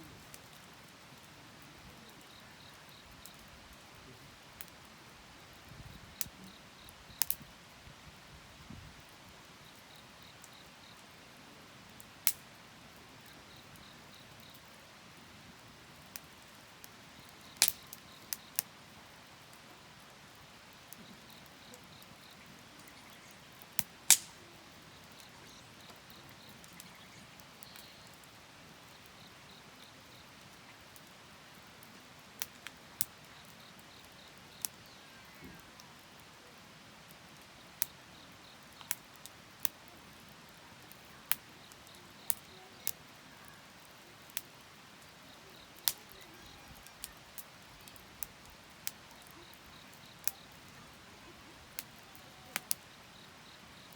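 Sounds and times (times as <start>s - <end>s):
wood fire popping and cracking: 0.0s - 7.5s, 9.2s - 53.9s
quiet steady hiss: 0.0s - 53.9s.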